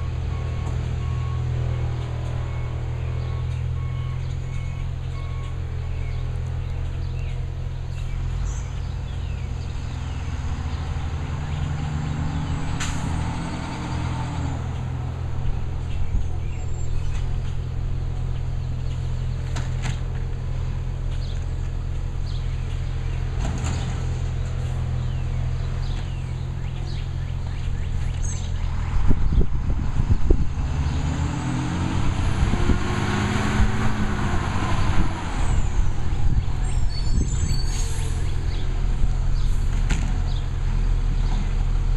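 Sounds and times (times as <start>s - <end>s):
garbage truck diesel engine: 0.0s - 41.9s.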